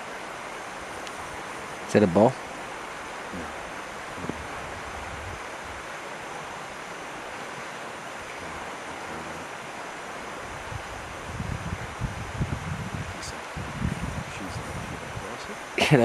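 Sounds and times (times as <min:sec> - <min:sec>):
river rushing: 0:00.0 - 0:16.0
wind rumble on microphone: 0:00.0 - 0:16.0.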